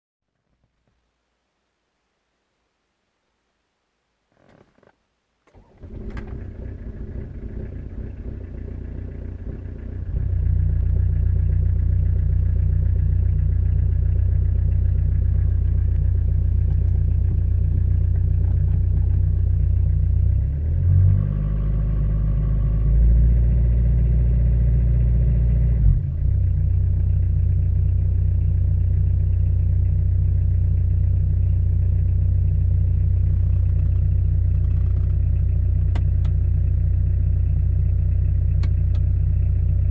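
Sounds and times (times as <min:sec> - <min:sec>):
car engine idling: 0:05.5 - 0:39.9.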